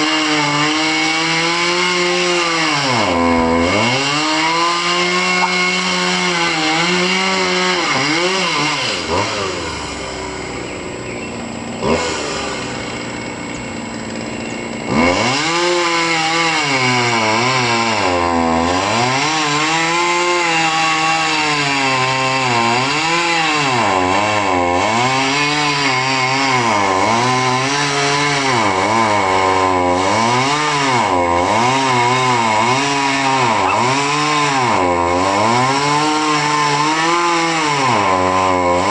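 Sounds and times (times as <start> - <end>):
chainsaw cutting: 0.0 - 38.9.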